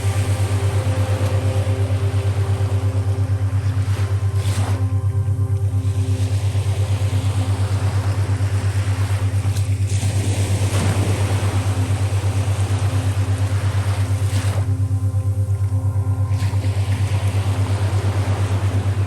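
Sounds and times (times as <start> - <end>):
boat engine idling: 0.0 - 19.0
sea water lapping: 0.0 - 19.0.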